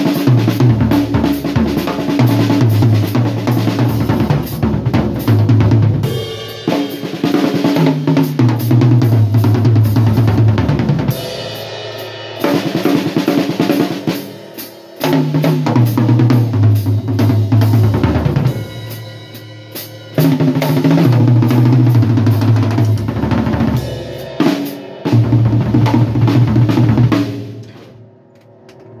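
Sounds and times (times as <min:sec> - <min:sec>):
bass drum and snare: 0:00.0 - 0:27.9
drum tom rolls: 0:00.0 - 0:29.0.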